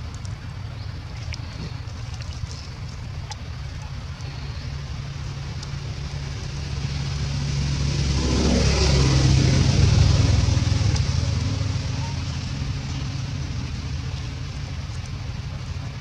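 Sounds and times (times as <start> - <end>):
vehicle engine passing by: 0.9 - 16.0.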